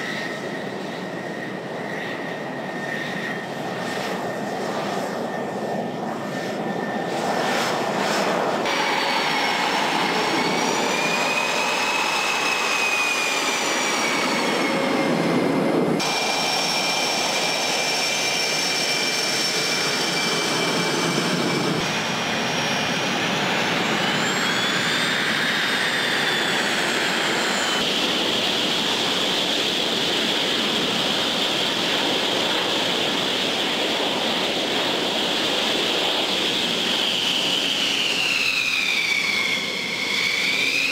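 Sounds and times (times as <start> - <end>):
high turbine whine: 0.0 - 40.9
jet engines rushing: 0.0 - 40.9.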